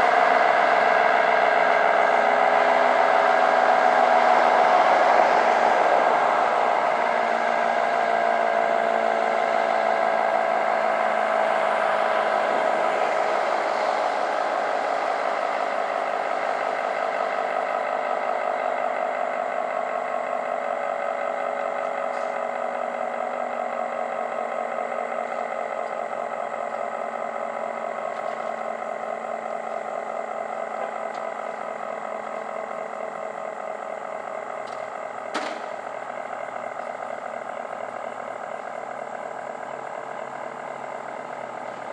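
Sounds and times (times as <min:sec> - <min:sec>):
dual-tone siren winding down: 0:00.0 - 0:41.9.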